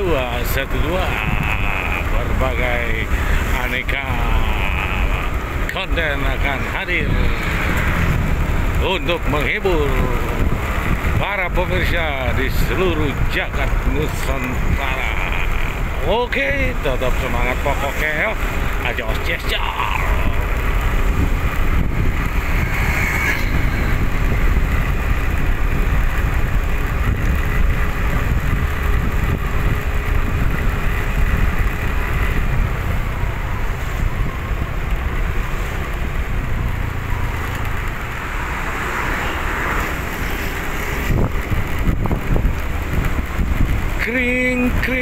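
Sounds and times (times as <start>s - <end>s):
vehicle passing: 0.0s - 11.2s, 12.1s - 44.0s
road noise: 0.0s - 45.0s
wind buffeting microphone: 0.0s - 45.0s.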